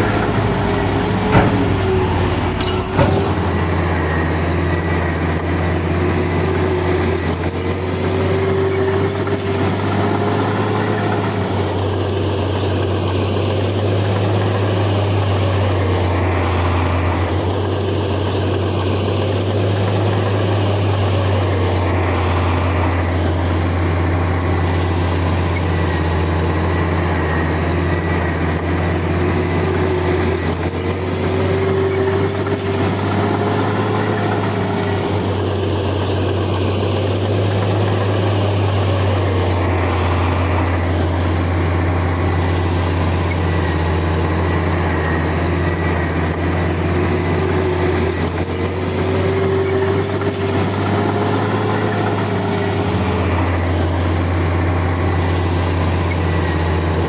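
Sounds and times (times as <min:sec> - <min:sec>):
heavy diesel machinery drone: 0:00.0 - 0:57.0.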